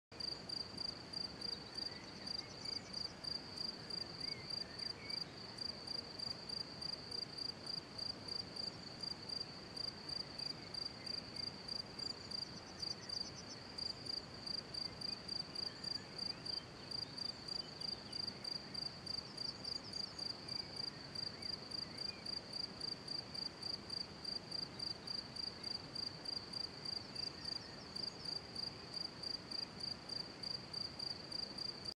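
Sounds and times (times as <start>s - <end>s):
high-pitched cricket-like chirping: 0.2s - 31.7s.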